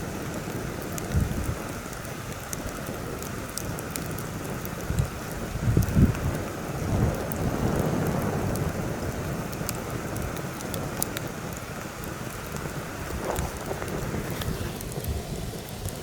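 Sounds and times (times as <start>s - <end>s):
campfire crackling and popping: 0.0s - 16.0s
wind buffeting microphone: 0.0s - 16.0s.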